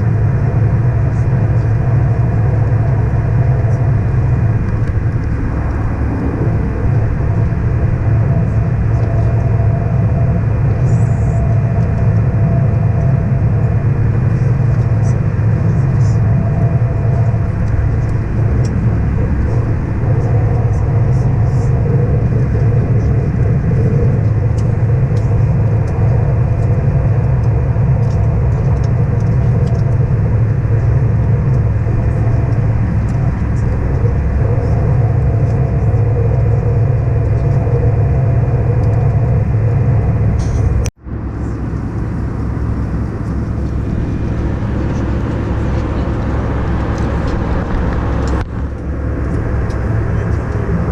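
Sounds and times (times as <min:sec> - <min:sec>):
airplane cabin engine rumble: 0:00.0 - 0:50.9
faint steady tones: 0:00.0 - 0:50.9.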